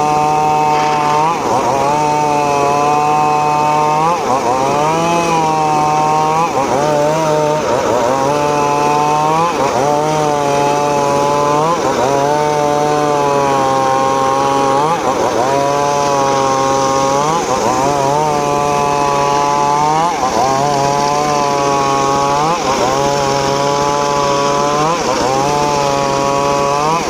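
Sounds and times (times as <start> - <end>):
circular saw cutting wood: 0.0 - 27.0.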